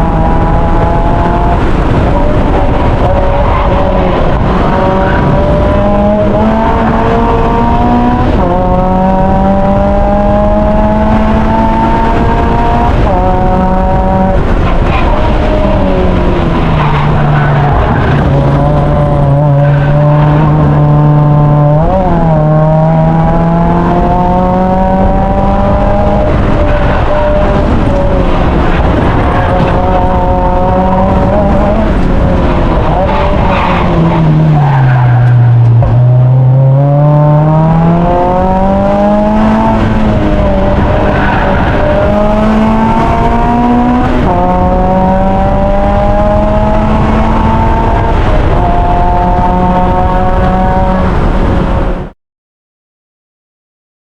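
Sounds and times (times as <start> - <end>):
race car engine at full throttle: 0.0 - 52.2.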